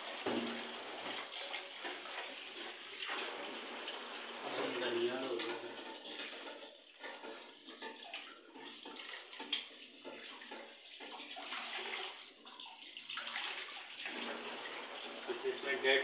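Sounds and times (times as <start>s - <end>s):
water splashing: 0.0s - 16.0s.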